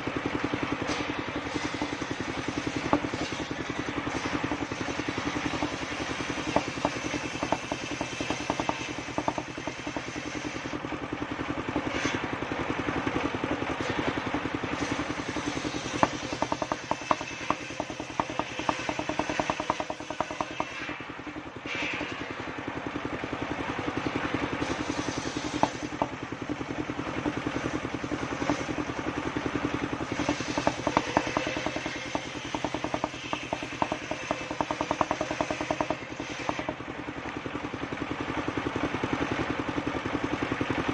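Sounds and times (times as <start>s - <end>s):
sawmill motor running: 0.0s - 40.9s.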